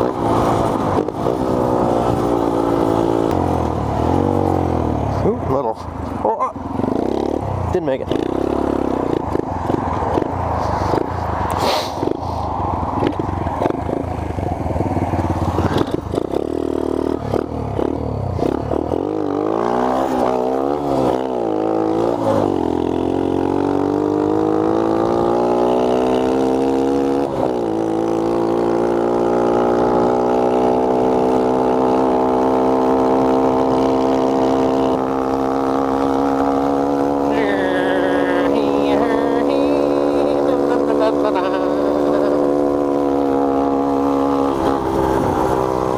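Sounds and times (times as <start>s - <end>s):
minibike engine revving: 0.0s - 45.9s.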